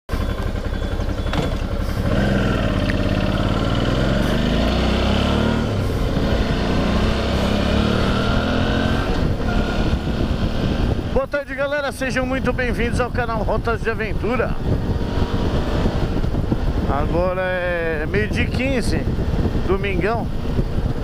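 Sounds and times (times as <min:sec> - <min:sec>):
motorcycle engine accelerating: 0:00.1 - 0:11.2, 0:12.1 - 0:21.0.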